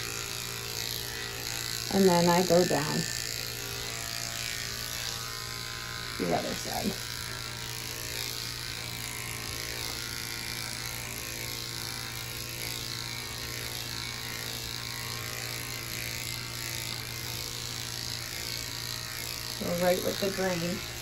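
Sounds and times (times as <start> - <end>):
electric clippers humming: 0.0 - 21.0.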